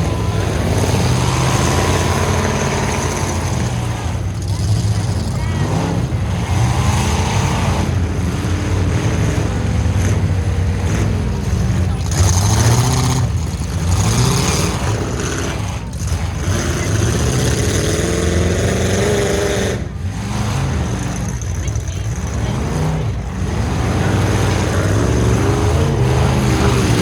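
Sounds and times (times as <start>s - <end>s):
truck engines revving: 0.0s - 27.0s.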